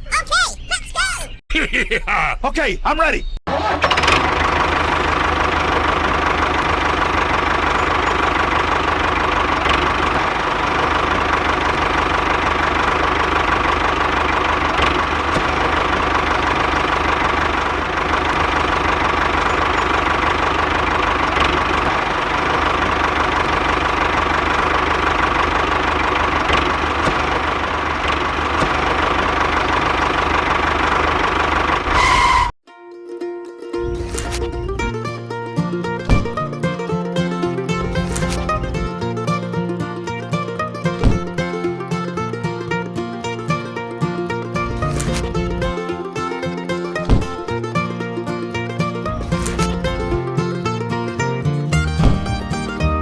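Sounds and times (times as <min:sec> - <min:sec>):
mini tractor engine running: 0:03.5 - 0:32.4, 0:33.8 - 0:53.0.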